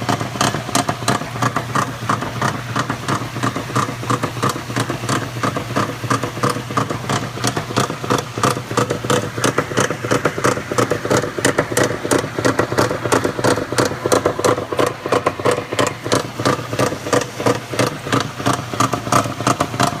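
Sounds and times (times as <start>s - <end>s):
washer motor hum: 0.0s - 20.0s.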